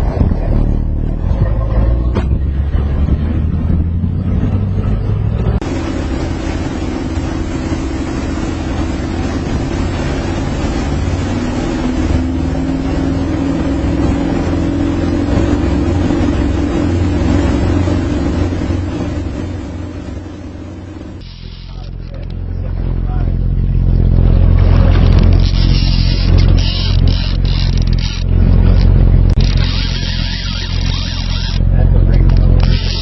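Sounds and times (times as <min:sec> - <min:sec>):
wind noise on microphone: 0:00.0 - 0:20.2, 0:23.9 - 0:33.0
boat engine running: 0:00.0 - 0:33.0.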